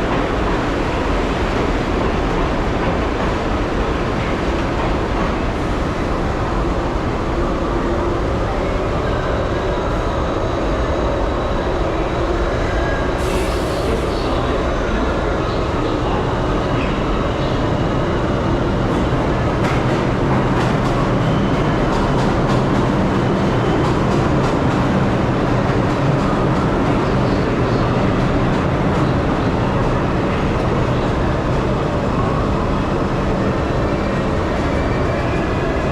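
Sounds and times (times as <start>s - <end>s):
subway train rumbling: 0.0s - 35.9s.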